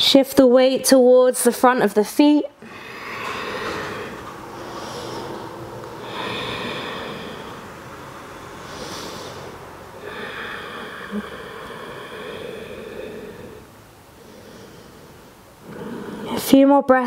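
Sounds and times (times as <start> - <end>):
woman breathing deeply: 2.6 - 16.4.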